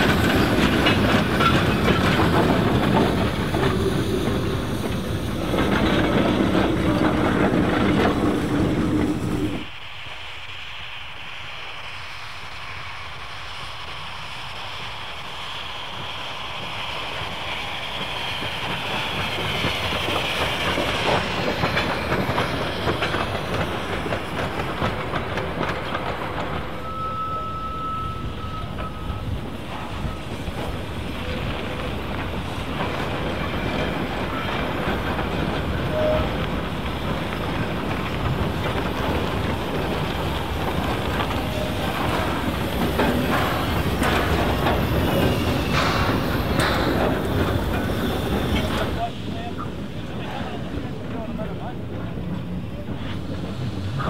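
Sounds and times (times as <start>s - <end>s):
wheels clicking over rail joints: 0.0s - 9.7s, 18.0s - 27.5s, 28.2s - 54.0s
train rolling past: 0.0s - 54.0s.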